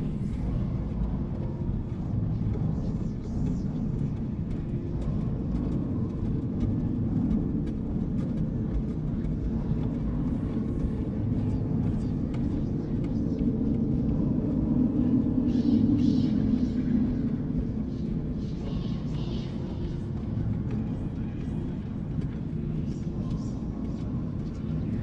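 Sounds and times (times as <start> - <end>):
dark ambient drone: 0.0 - 25.0.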